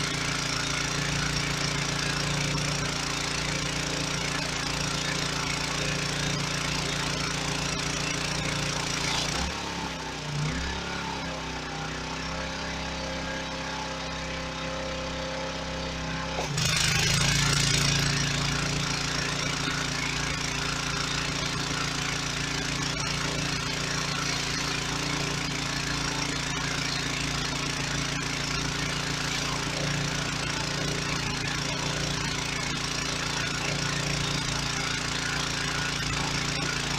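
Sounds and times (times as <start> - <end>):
high-pressure water spraying: 0.0 - 10.8, 16.3 - 36.9
small engine running: 0.0 - 36.9.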